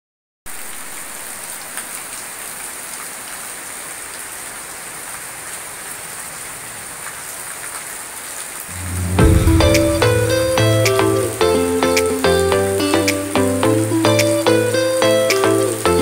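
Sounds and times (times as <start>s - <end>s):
rain falling: 0.5s - 16.0s.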